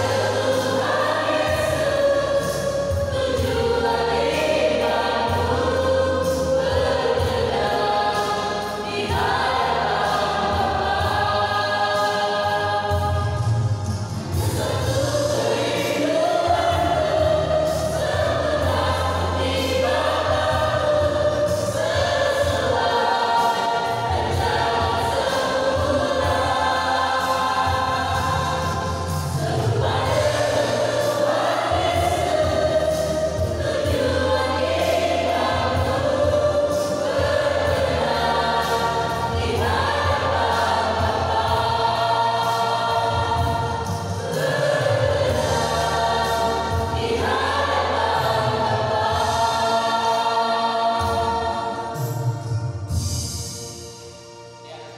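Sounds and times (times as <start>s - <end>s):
low bass accompaniment: 0.0s - 49.6s
choir singing in harmony: 0.0s - 54.9s.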